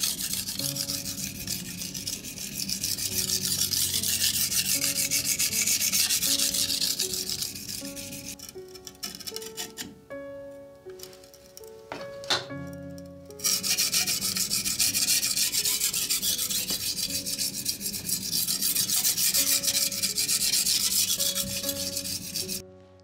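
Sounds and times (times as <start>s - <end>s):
knife grinding on whetstone: 0.0s - 10.0s, 13.3s - 22.6s.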